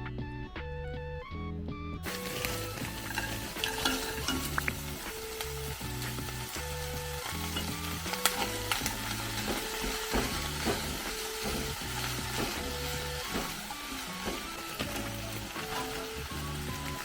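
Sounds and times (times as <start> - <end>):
soft background music: 0.0 - 17.0
food sizzling in a frying pan: 2.0 - 17.0
utensil clicking against a pan: 2.1 - 17.0.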